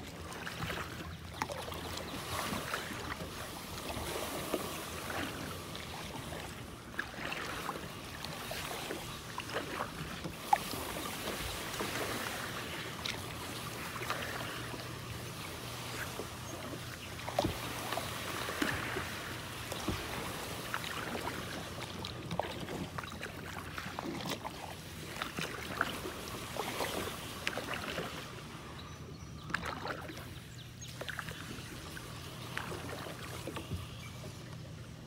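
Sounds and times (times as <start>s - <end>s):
paddle strokes splashing: 0.0s - 35.0s.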